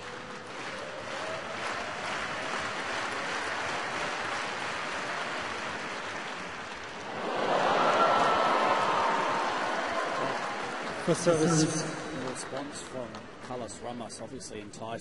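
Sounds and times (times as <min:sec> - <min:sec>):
crowd cheering and applause: 0:00.0 - 0:13.5
stadium crowd noise: 0:00.0 - 0:15.0.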